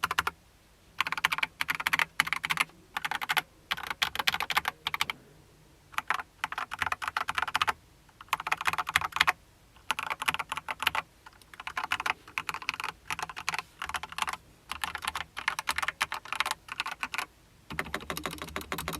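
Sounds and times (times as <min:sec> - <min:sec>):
mechanical keyboard typing: 0:00.0 - 0:00.4, 0:01.0 - 0:05.1, 0:06.0 - 0:18.9.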